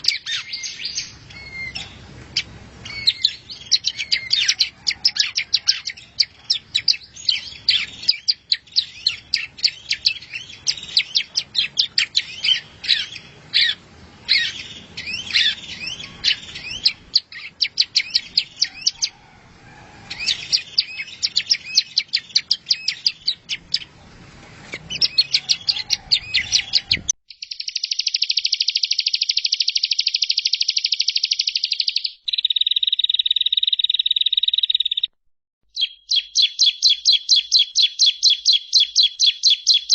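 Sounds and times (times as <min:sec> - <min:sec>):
songbird chirps and whistles: 0:00.0 - 0:19.2, 0:20.1 - 0:23.9, 0:24.7 - 0:35.1, 0:35.7 - 0:39.9
bird trilling: 0:00.0 - 0:23.9, 0:24.8 - 0:35.1, 0:35.7 - 0:39.9.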